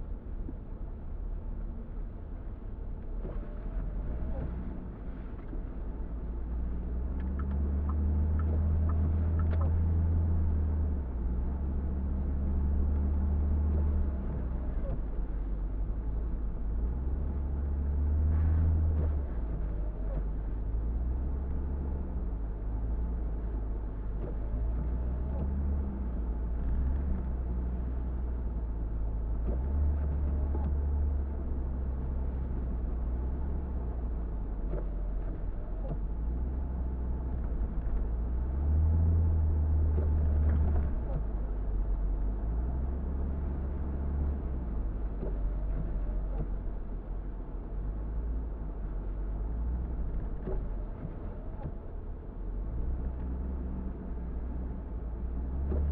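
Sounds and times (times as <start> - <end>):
car engine and road rumble: 0.0 - 55.9.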